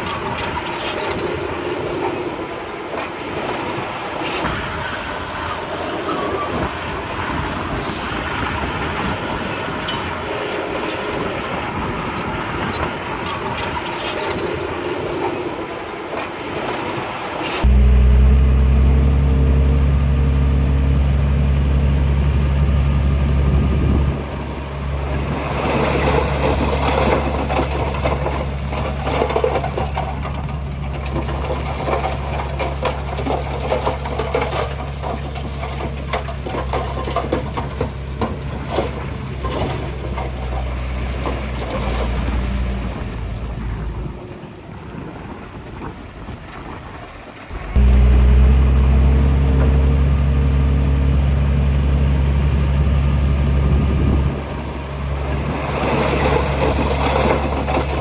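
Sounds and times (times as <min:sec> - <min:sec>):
machinery clattering and rattling: 0:00.0 - 0:19.6, 0:23.5 - 0:44.3, 0:46.6 - 0:58.0
heavy machinery diesel engine: 0:00.0 - 0:58.0.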